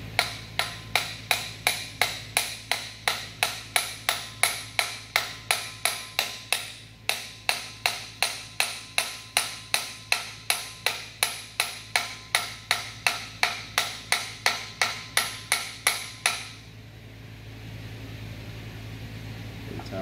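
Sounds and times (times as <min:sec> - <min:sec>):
hammer blows on metal: 0:00.0 - 0:16.7.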